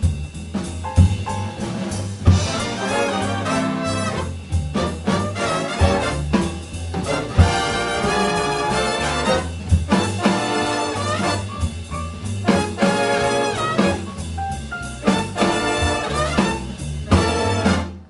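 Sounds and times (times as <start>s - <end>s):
bass and drums: 0.0s - 18.0s
big band horn section: 0.0s - 18.0s.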